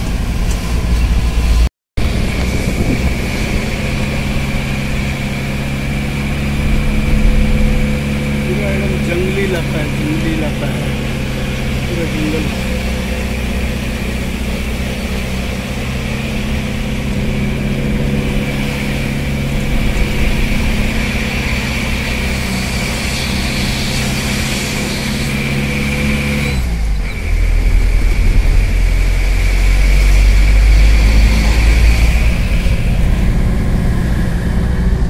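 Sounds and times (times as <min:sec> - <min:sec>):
car engine and road noise: 0:00.0 - 0:35.0
loud low rumble: 0:00.0 - 0:35.0.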